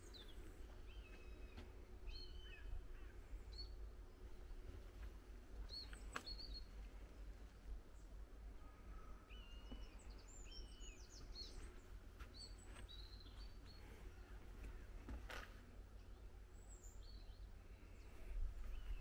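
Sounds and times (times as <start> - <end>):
songbirds chirping: 0.0 - 19.0
steady low rumble: 0.0 - 19.0.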